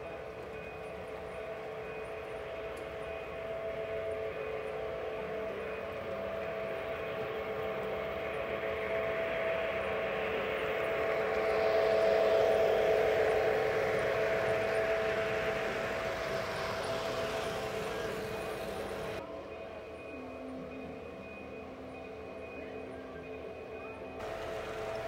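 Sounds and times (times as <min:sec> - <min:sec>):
model train humming on track: 0:00.0 - 0:25.0.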